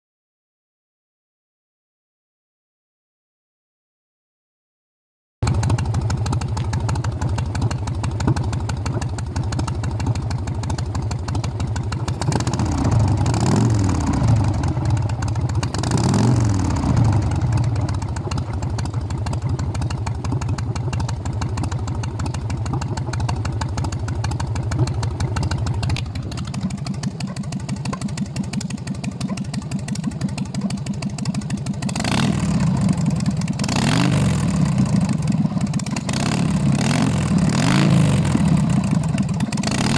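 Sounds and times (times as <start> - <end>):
motorcycle engine idling: 5.4 - 39.9.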